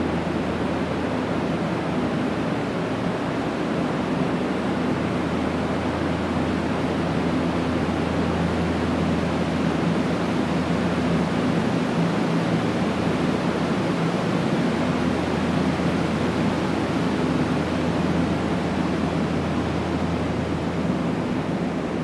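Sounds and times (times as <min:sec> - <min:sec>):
air rushing from vents: 0:00.0 - 0:22.0
ventilation blower hum: 0:00.0 - 0:22.0.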